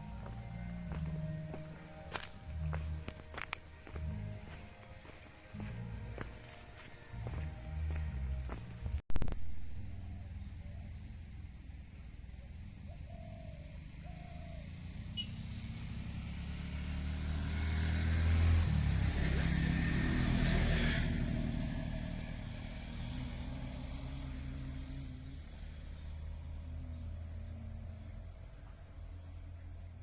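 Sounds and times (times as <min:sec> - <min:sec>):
vehicle engine passing by: 0:00.0 - 0:09.0, 0:09.7 - 0:30.0.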